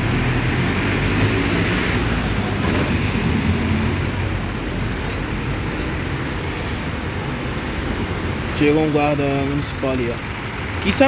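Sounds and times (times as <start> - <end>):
bus diesel engine passing: 0.0 - 11.0
traffic noise: 0.0 - 11.0.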